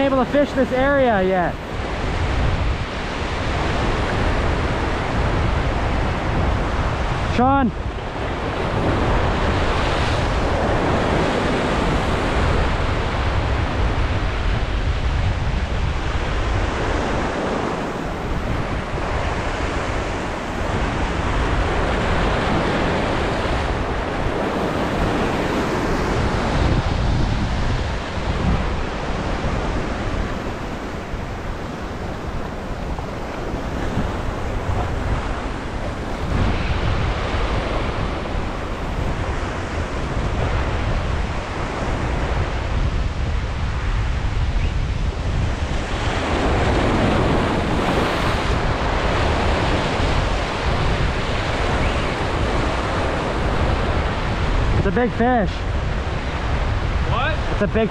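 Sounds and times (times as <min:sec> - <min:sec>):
ocean surf washing over rocks: 0:00.0 - 0:57.9
wind buffeting microphone: 0:00.0 - 0:57.9.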